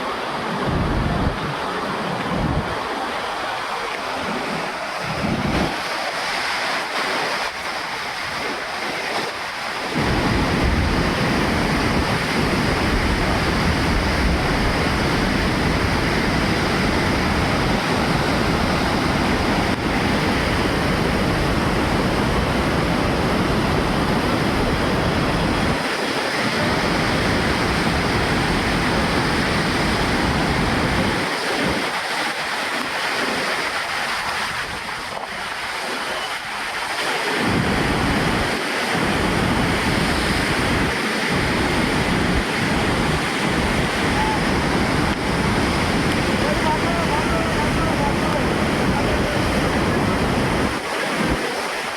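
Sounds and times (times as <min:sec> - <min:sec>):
river water rushing: 0:00.0 - 0:51.9
wind buffeting microphone: 0:00.0 - 0:51.9.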